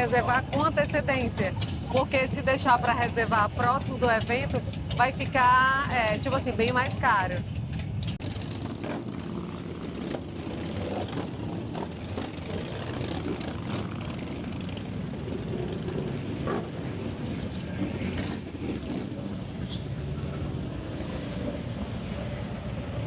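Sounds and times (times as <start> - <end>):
motorcycle engines rumbling: 0.0 - 23.0.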